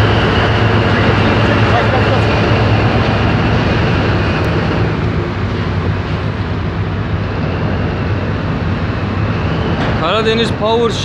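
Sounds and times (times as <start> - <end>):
diesel engine humming: 0.0 - 11.0
water noise: 0.0 - 11.0
wind noise: 0.0 - 11.0.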